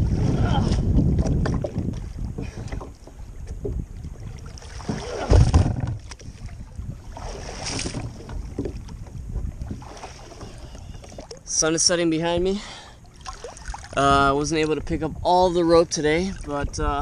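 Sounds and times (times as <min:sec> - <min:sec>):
waves slapping against kayak: 0:00.0 - 0:11.8, 0:13.0 - 0:15.3
wind gusting on microphone: 0:00.0 - 0:12.6, 0:13.5 - 0:17.0.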